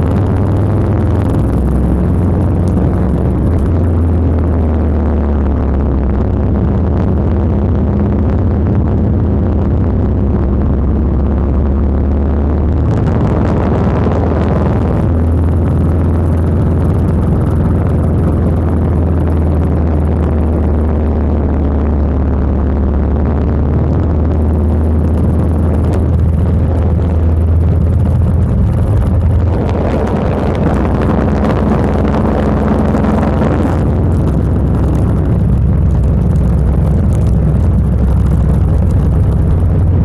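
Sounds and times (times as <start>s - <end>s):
motorcycle engine running: 0.0s - 40.0s
rushing wind noise: 0.0s - 40.0s.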